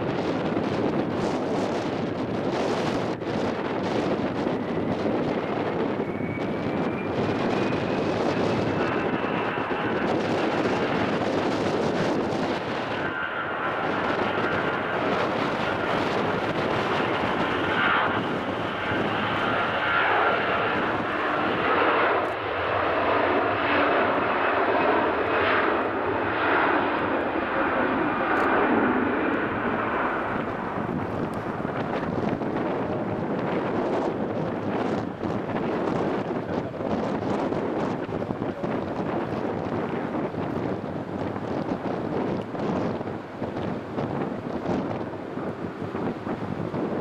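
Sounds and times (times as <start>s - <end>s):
jet engines roaring: 0.0s - 47.0s
wind buffeting microphone: 0.0s - 47.0s.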